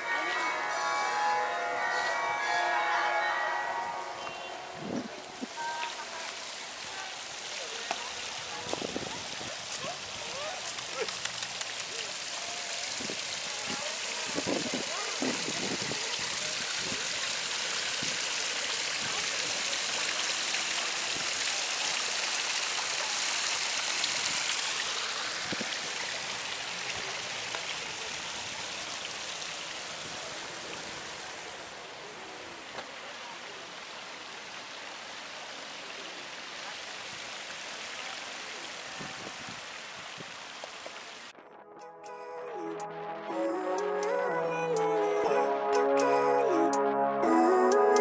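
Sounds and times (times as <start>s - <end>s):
fountain water splashing: 0.0s - 41.4s.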